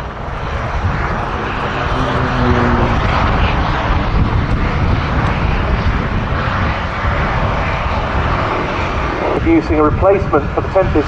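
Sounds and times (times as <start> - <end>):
propeller aircraft engines running: 0.0 - 11.0.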